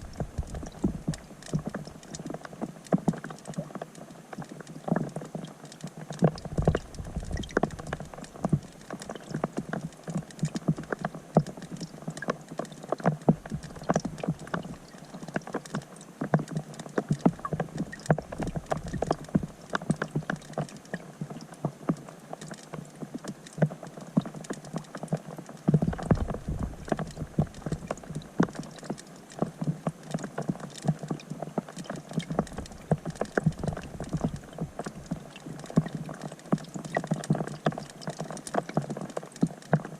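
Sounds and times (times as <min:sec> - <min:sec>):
rain on water heard underwater: 0:00.0 - 0:39.9.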